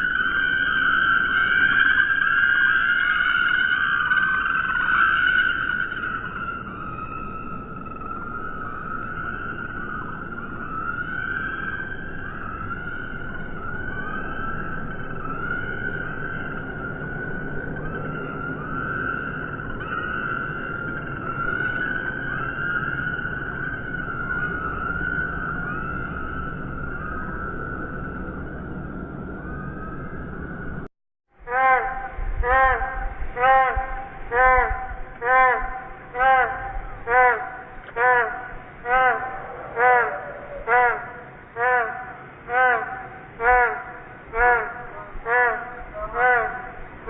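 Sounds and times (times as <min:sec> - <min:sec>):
slowed-down bird calls: 0:00.0 - 0:27.6, 0:31.4 - 0:47.0.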